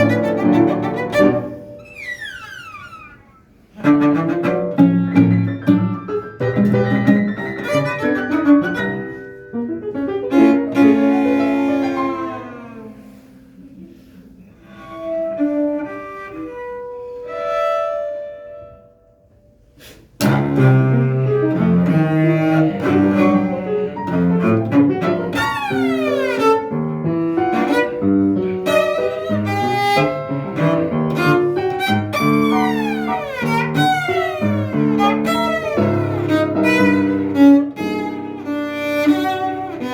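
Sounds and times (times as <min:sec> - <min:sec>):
cello and piano duet: 0:00.0 - 0:19.5, 0:20.1 - 0:39.9.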